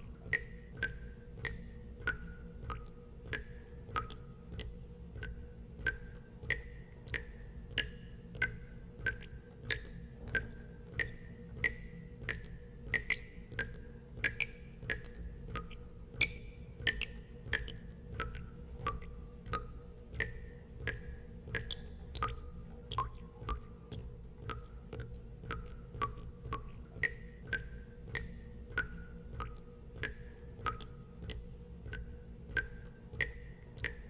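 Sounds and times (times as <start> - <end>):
steady low hum: 0.0 - 34.0
water drops plinking into water: 0.0 - 34.0.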